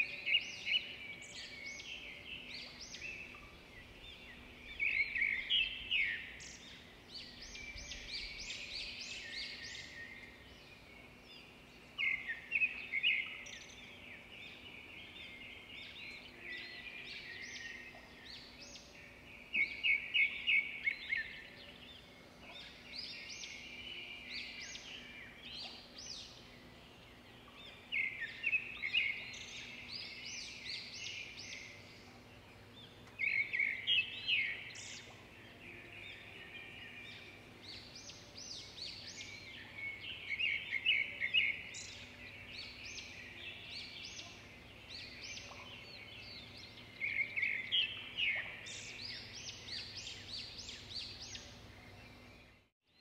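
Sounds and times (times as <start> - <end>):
birds singing and chirping: 0.0 - 53.0.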